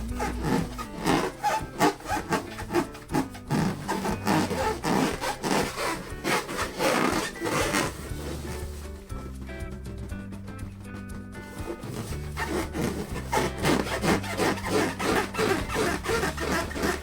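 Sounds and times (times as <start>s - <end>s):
hands rubbing balloons squeaking: 0.0s - 17.0s.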